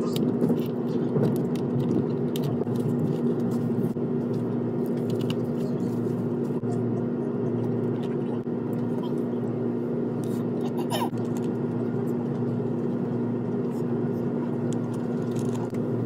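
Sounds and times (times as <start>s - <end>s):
train carriage rumble and hum: 0.0s - 16.0s.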